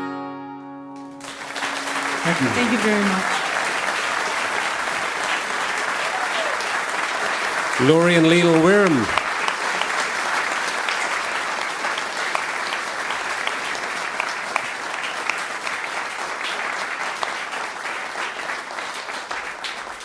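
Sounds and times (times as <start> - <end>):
audience applauding: 1.1 - 20.0.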